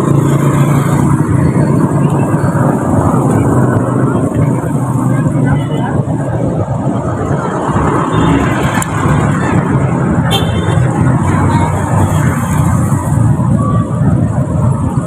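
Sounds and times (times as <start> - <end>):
road vehicle hum and rumble: 0.0 - 15.0.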